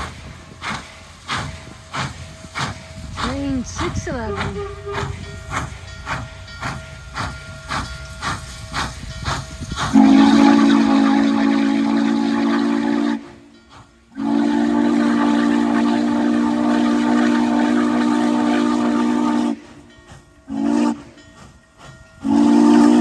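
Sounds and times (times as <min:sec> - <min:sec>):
deep steam whistle: 0:00.0 - 0:05.8, 0:07.0 - 0:21.6, 0:22.2 - 0:23.0
steam locomotive chuffing: 0:00.0 - 0:23.0.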